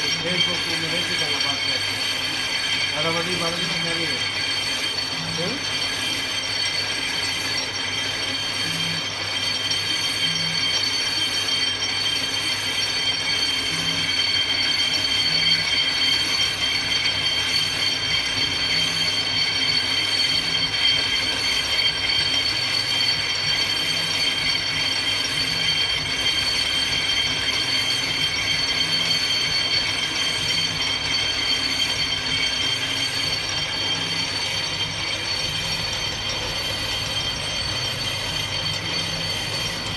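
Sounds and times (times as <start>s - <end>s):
high-pitched cutting squeal: 0.0s - 39.9s
lathe mechanical running: 0.0s - 39.9s.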